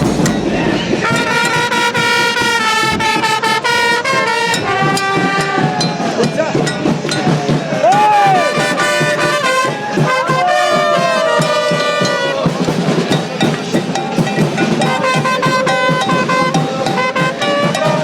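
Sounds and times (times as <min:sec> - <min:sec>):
bass drums beating fast rhythm: 0:00.0 - 0:18.0
horns holding notes: 0:00.0 - 0:18.0.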